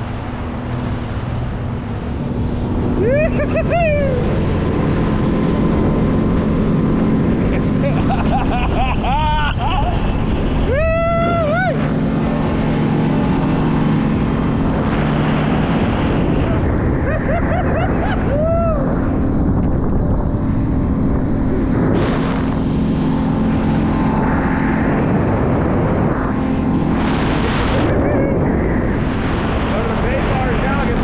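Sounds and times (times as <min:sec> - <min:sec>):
motorboat engine running: 0:00.0 - 0:31.0
rushing water: 0:00.0 - 0:31.0
wind: 0:00.0 - 0:31.0.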